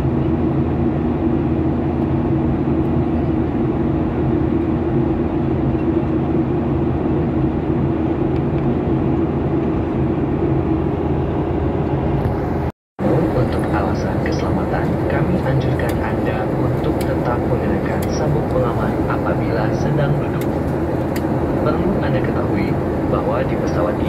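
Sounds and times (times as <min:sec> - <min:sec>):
airliner cabin drone: 0:00.0 - 0:24.0
steady low hum: 0:00.0 - 0:24.0.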